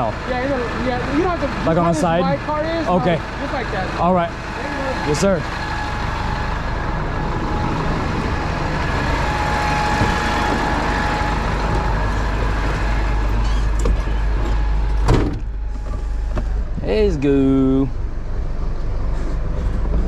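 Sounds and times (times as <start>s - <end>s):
tow truck engine rumbling: 0.0s - 20.0s
faint steady whine: 0.5s - 18.0s.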